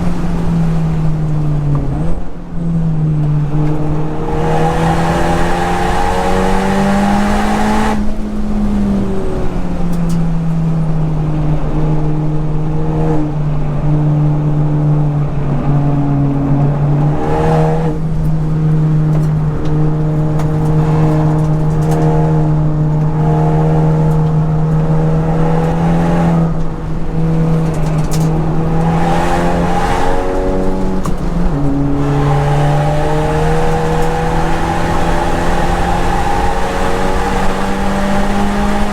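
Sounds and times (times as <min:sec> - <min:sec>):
car engine running hard: 0:00.0 - 0:38.9.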